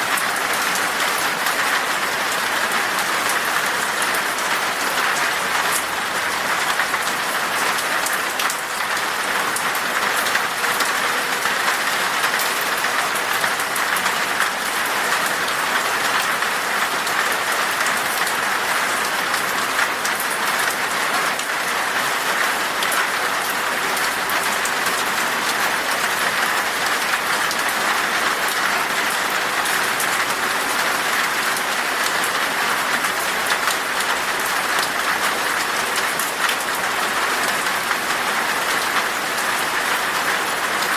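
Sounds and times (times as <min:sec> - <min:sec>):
rain falling in forest: 0:00.0 - 0:40.9.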